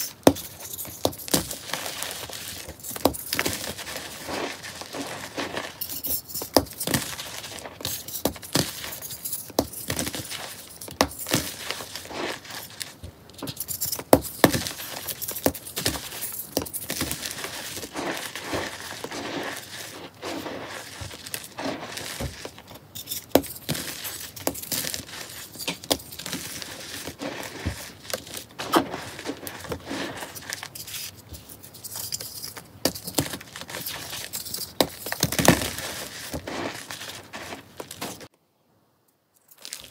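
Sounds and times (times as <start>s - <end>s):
hands crushing chalk blocks: 0.0s - 38.3s.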